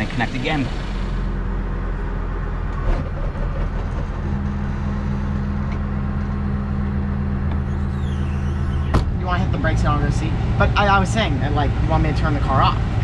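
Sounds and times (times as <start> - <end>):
motorhome engine idling: 0.0 - 13.0.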